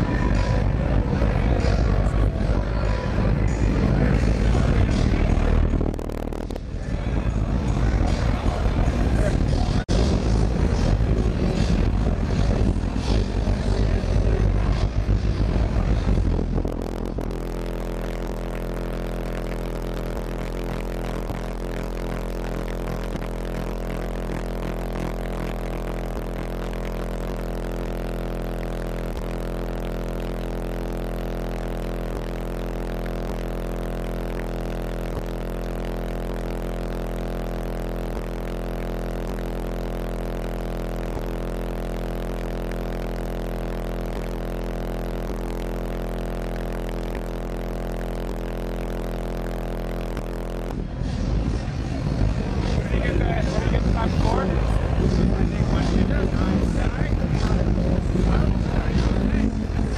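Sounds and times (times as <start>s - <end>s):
buzzing rattle: 0.0s - 59.9s
distorted subwoofer bass tone: 0.0s - 59.9s.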